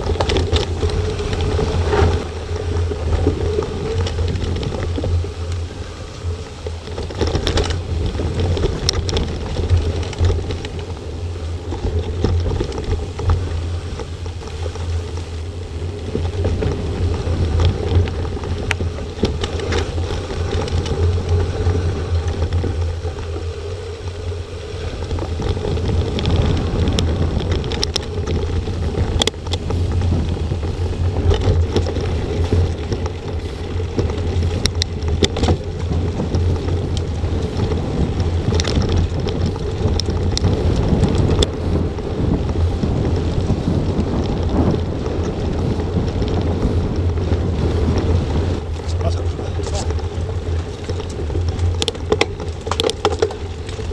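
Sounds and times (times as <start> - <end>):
bike clicks and rattles: 0.0 - 53.9
wind rumbling on microphone: 0.0 - 53.9.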